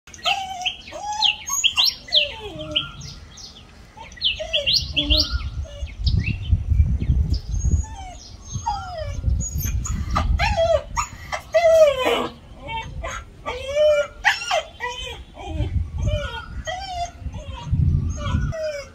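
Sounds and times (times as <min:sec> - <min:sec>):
songbirds chirping and twittering: 0:00.1 - 0:18.9.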